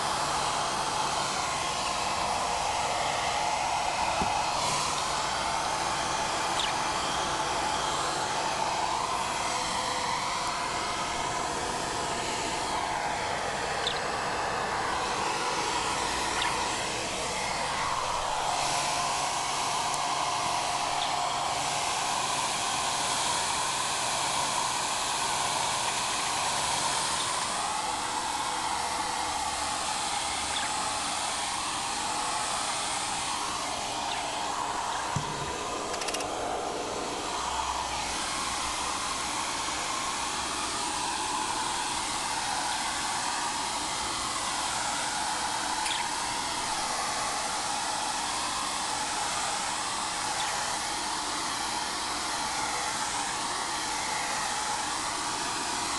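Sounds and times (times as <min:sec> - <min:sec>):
electric blower air rushing: 0:00.0 - 0:55.9.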